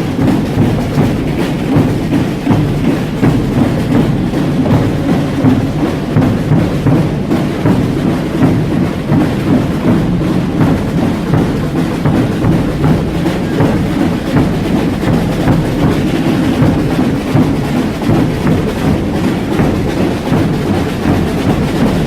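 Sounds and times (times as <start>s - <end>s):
massed drums playing: 0.0s - 22.0s.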